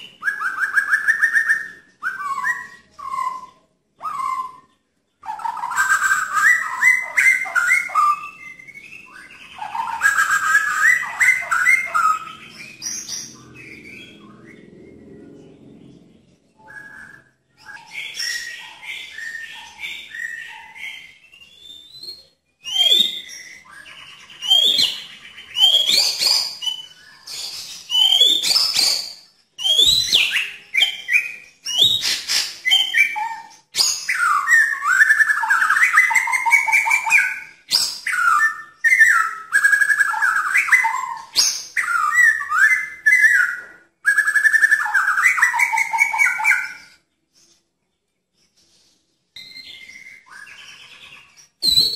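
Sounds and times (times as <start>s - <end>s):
bird singing whistled song: 0.0s - 47.6s, 48.4s - 51.9s.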